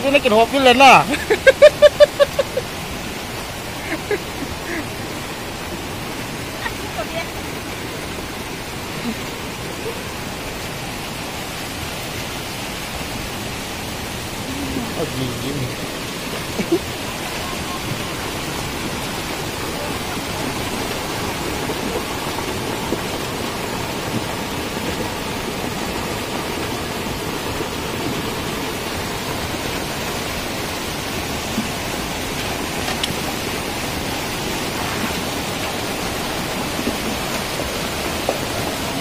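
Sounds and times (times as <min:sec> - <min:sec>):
flooded stream rushing: 0:00.0 - 0:39.0.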